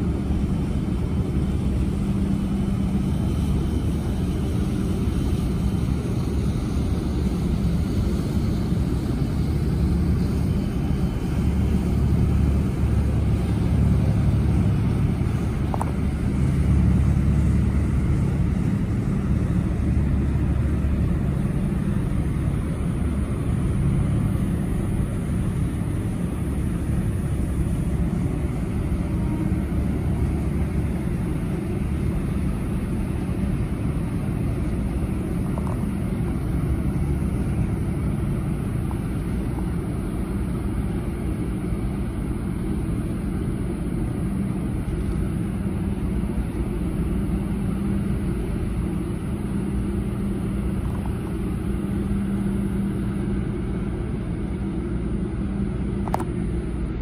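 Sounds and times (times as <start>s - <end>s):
boat engine drone: 0.0s - 57.0s.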